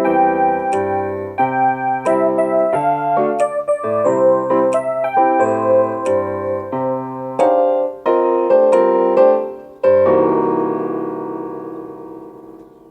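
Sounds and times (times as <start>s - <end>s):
electronic keyboard piano chords: 0.0s - 12.9s.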